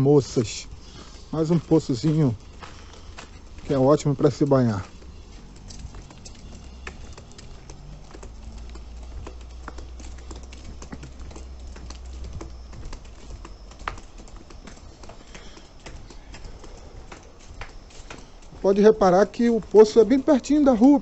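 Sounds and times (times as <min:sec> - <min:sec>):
footsteps on gravel path: 0:00.0 - 0:21.0.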